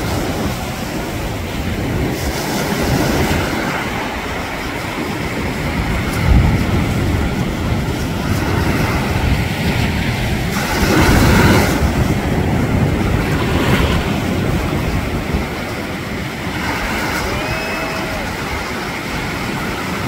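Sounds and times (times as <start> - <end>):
ocean surf breaking: 0.0 - 20.0
wind rumbling on microphone: 0.0 - 20.0.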